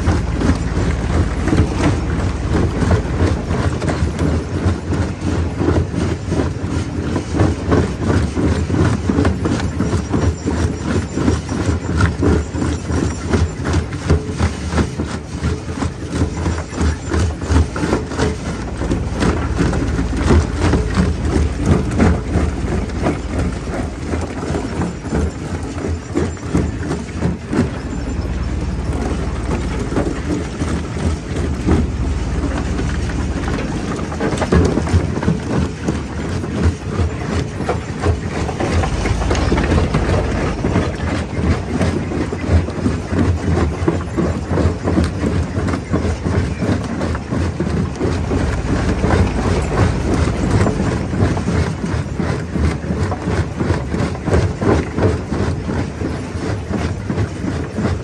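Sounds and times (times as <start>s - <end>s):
rock crusher rumble: 0.0s - 58.0s.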